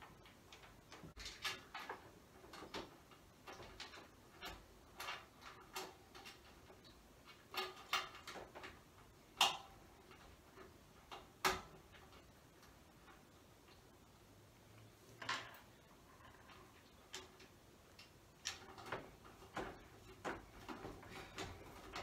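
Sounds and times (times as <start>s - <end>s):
clicks and taps on metal rack: 0.0s - 13.8s, 16.4s - 22.0s.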